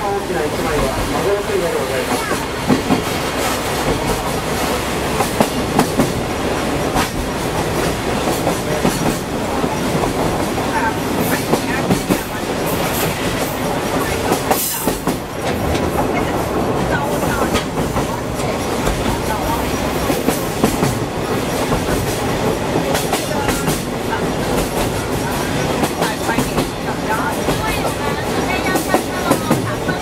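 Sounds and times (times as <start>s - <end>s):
train carriage rumbling: 0.0s - 30.0s.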